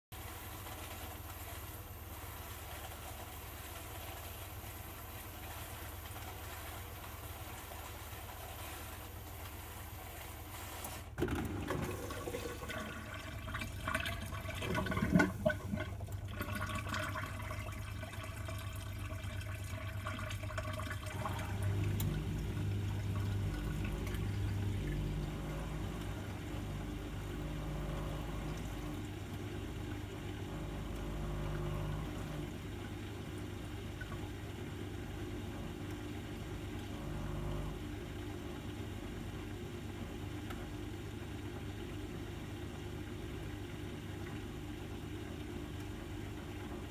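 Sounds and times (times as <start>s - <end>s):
dishwasher motor hum: 0.1s - 46.9s
water rushing through dishwasher: 0.2s - 46.9s.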